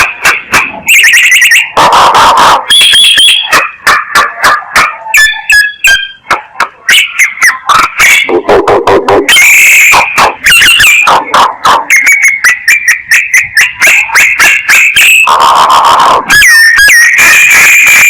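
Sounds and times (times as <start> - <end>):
myna calling: 0.0 - 18.0.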